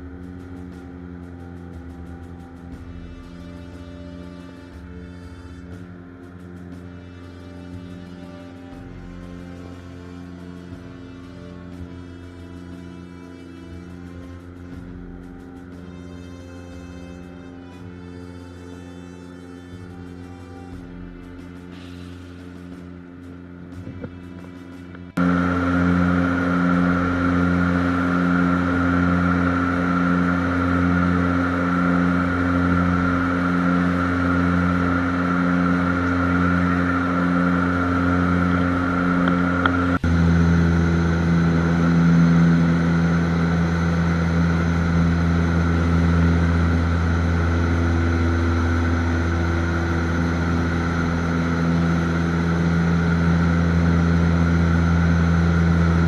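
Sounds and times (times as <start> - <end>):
engine drone: 0.0 - 56.0
slowly pulsing tones: 0.0 - 56.0.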